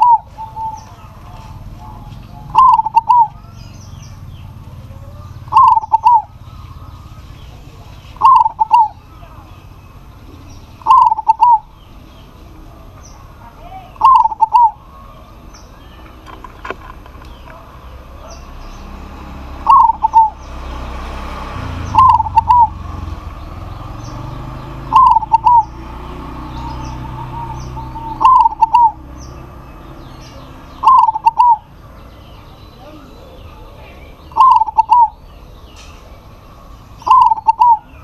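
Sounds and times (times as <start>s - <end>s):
dove cooing: 0.0s - 12.9s, 13.6s - 15.3s, 16.2s - 21.0s, 21.6s - 36.2s, 36.8s - 38.0s.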